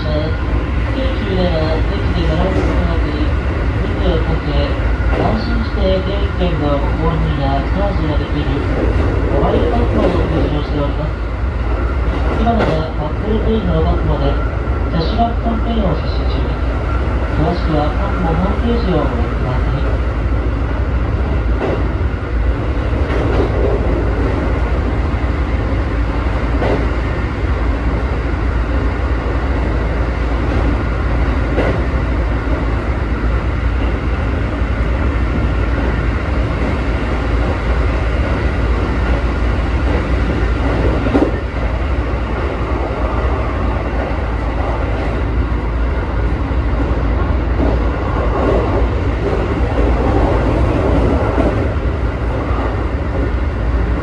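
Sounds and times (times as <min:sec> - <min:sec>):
electric train rolling and motor noise: 0:00.0 - 0:54.0.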